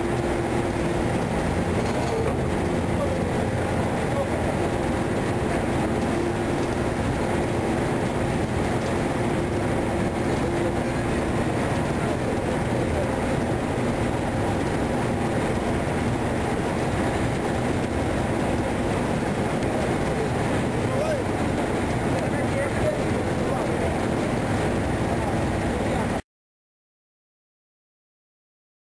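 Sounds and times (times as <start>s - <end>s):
ship engines rumbling: 0.0s - 26.2s.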